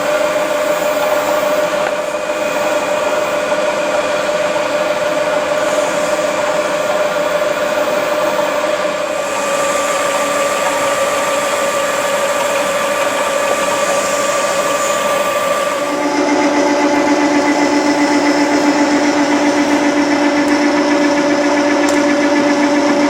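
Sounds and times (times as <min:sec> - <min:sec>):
mill mechanical whine: 0:00.0 - 0:23.0.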